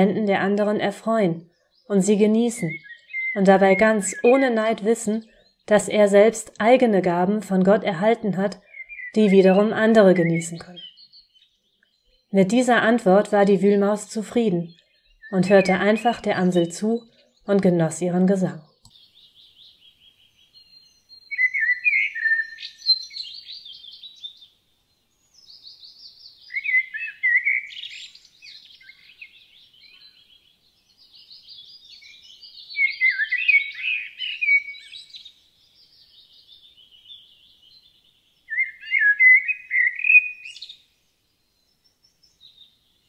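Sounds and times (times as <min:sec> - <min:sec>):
blackbird singing: 0:00.0 - 0:43.0.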